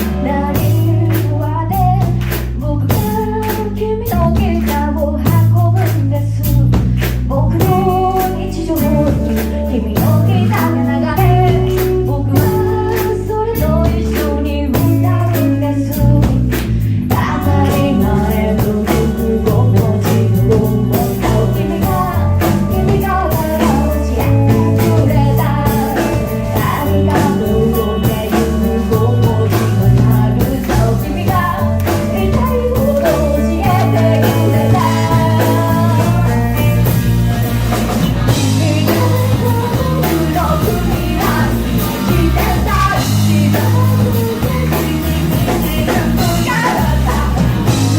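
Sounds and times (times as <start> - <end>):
rock band playing live: 0.0 - 47.9
lead vocal singing: 7.4 - 37.0, 37.8 - 47.9.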